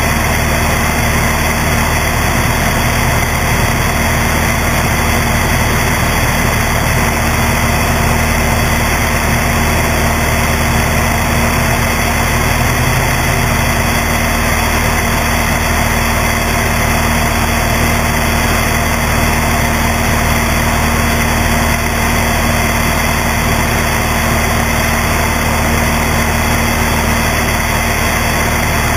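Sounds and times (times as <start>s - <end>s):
airplane engine and propeller: 0.0s - 28.9s.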